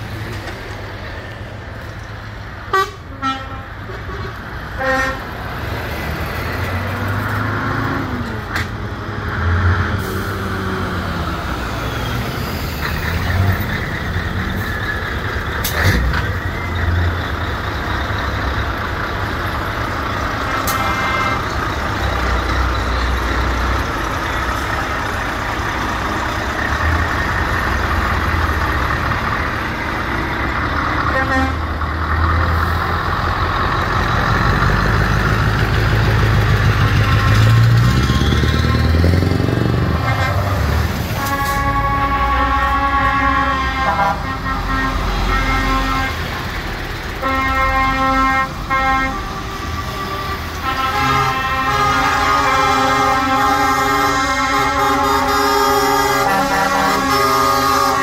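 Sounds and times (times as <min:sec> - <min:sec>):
heavy trucks driving past: 0:00.0 - 0:58.0.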